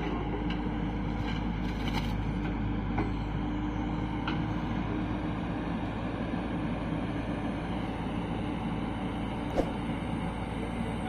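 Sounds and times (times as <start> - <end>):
heavy diesel machinery droning: 0.0 - 11.0.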